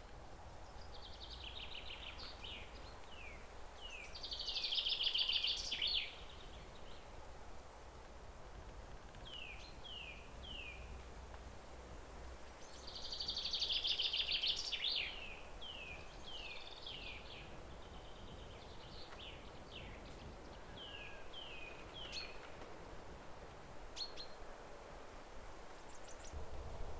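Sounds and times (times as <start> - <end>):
faint outdoor hiss: 0.0 - 26.9.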